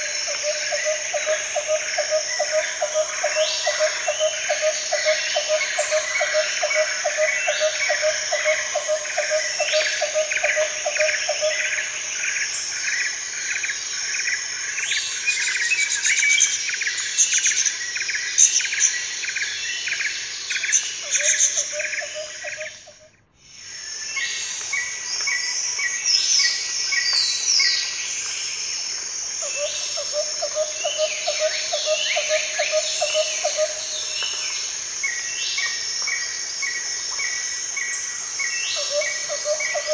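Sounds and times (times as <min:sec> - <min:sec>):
insects and birds chirping: 0:00.0 - 0:39.9.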